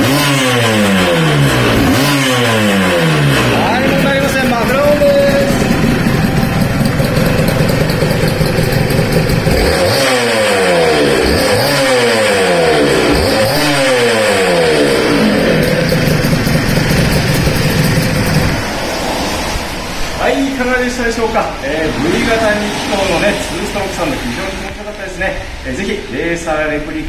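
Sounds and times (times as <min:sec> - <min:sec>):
two-stroke motorcycle engine revving: 0:00.0 - 0:18.8, 0:21.7 - 0:24.8.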